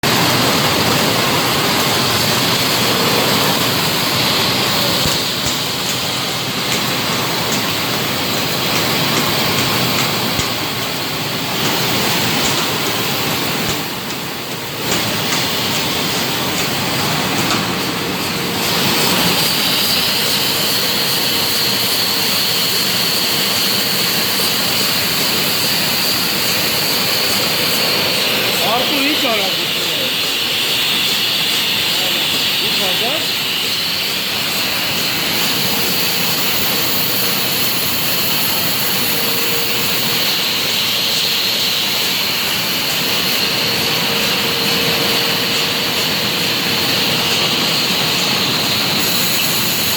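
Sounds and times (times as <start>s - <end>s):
hissing machine din: 0.0s - 49.9s.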